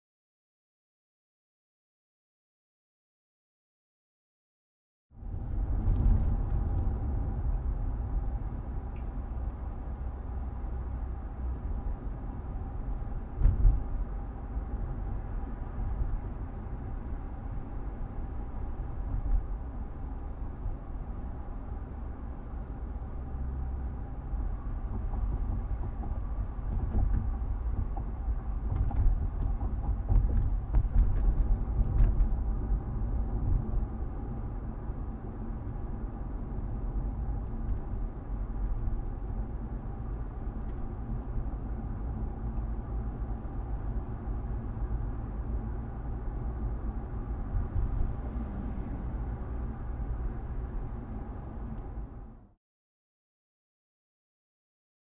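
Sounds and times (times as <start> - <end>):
car engine and tyre rumble: 5.1 - 52.6.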